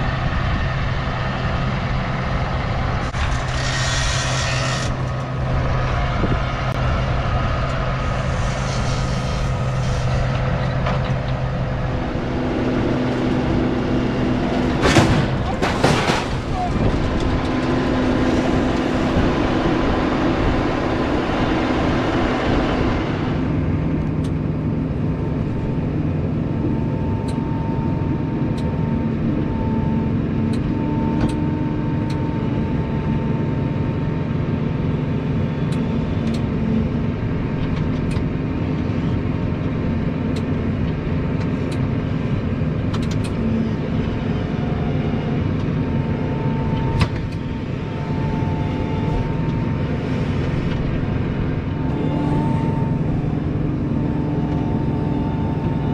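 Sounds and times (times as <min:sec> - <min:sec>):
farm machinery engine humming: 0:00.0 - 0:55.9.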